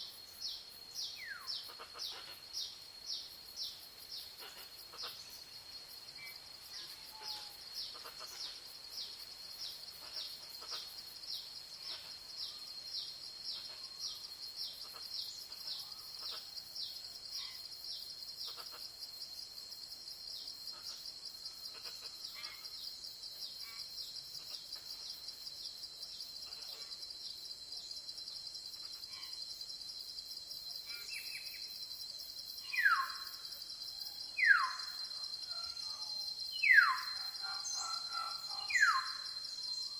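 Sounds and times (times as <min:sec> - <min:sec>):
high insect chorus buzzing: 0:00.0 - 0:39.9.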